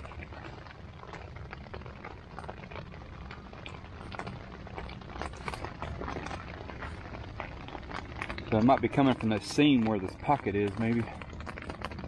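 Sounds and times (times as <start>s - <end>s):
rain pattering on a tent: 0.0s - 12.0s.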